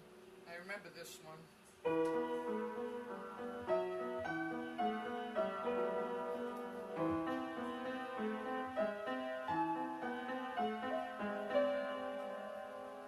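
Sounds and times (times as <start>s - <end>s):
out of tune piano playing: 1.8s - 13.0s.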